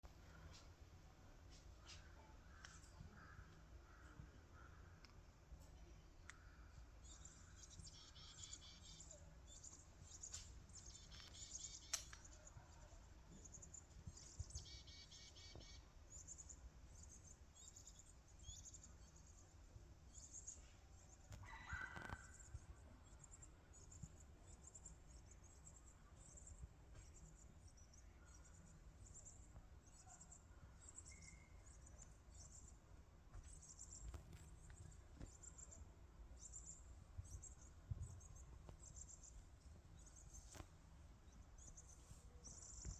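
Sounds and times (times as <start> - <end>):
faint bird chirps: 1.7 - 42.9.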